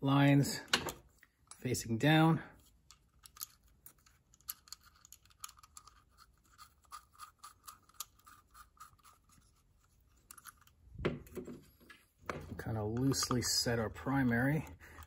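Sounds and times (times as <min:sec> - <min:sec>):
small metallic clicks and scraping: 0:00.6 - 0:01.8, 0:02.6 - 0:15.0.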